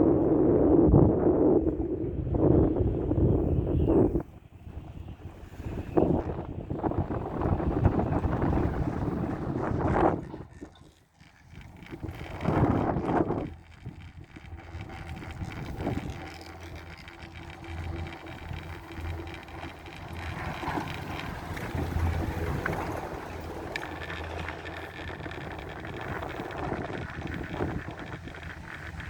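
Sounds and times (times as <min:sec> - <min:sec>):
chairlift mechanical hum: 0:00.0 - 0:29.0
wind on microphone: 0:00.0 - 0:29.0.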